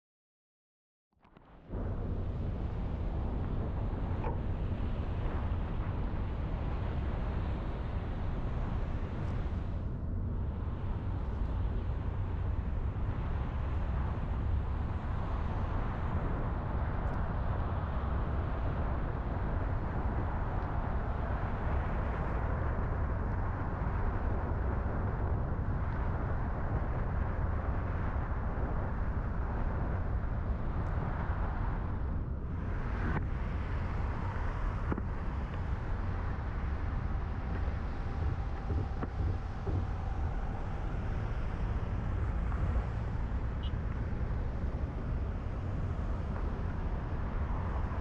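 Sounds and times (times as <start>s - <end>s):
vehicle low rumble: 1.2s - 48.0s.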